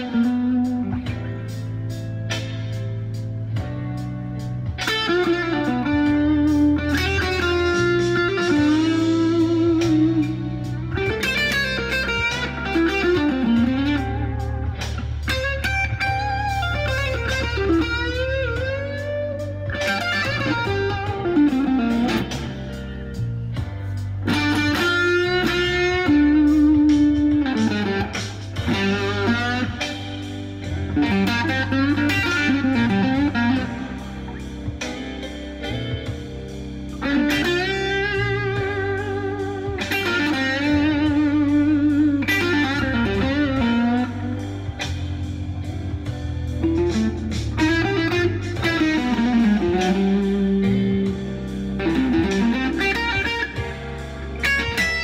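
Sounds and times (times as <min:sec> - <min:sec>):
blues backing track with bass and drums: 0:00.0 - 0:55.0
overdriven electric guitar blues lead: 0:00.0 - 0:55.0.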